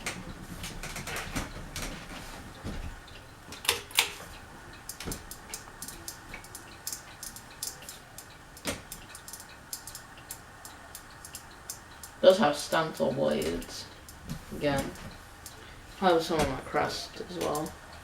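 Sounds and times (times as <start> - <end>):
faint steady hum: 0.0 - 18.0
light clicks and taps: 0.0 - 18.0.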